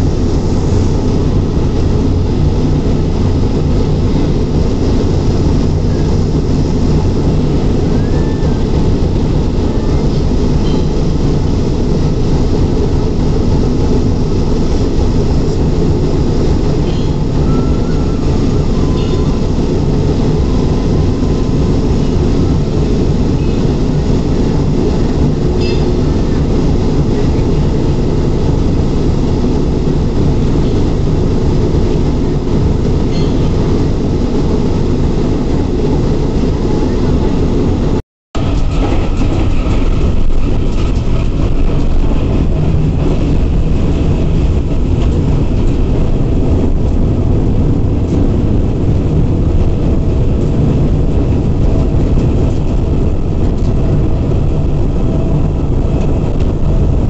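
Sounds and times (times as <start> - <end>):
diesel locomotive engine drone: 0.0 - 57.0
wheel and rail noise: 0.0 - 57.0.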